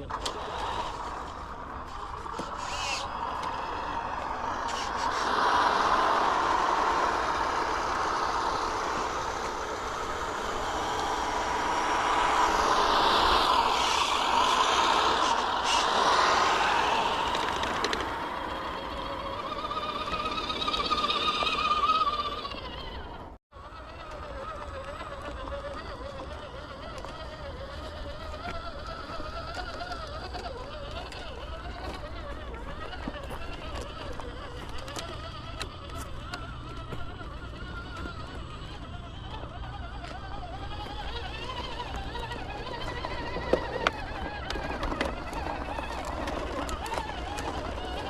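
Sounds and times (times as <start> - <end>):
toy truck electric motor whining: 0.0 - 48.0.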